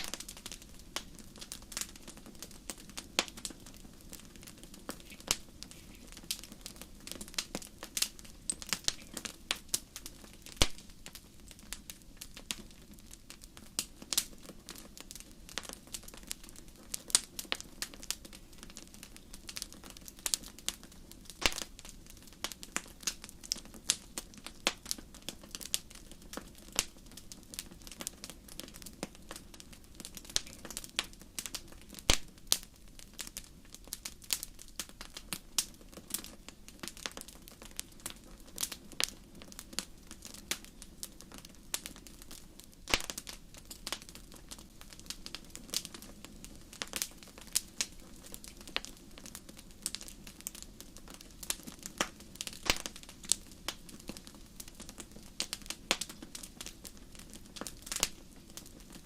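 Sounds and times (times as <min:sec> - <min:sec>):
campfire crackling: 0:00.0 - 0:59.0
hiss of burning: 0:00.0 - 0:59.0.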